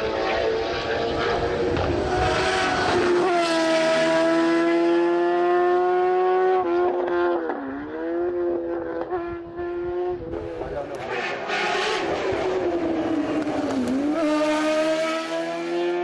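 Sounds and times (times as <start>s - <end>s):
high-revving engine passing: 0.0s - 16.0s.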